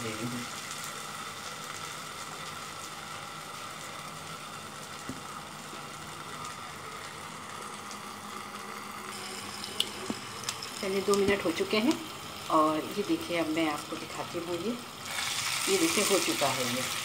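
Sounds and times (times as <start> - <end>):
faint steady hum: 0.0 - 17.0
soft sizzle of frying: 0.0 - 17.0.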